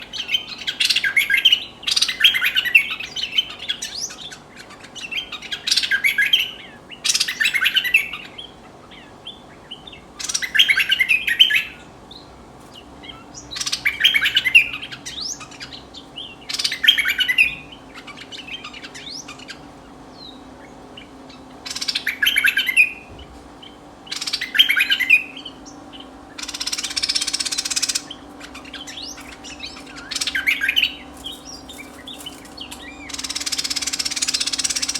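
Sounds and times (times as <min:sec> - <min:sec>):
bird chattering song: 0:00.0 - 0:34.9.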